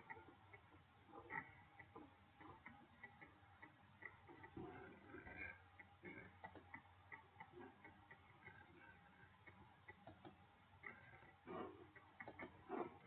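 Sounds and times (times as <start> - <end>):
light ticks: 0.0 - 13.0.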